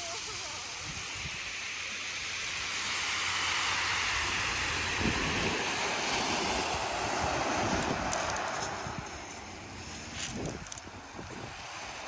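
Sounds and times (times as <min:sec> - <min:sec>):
waves washing over pebbles: 0:00.0 - 0:12.0.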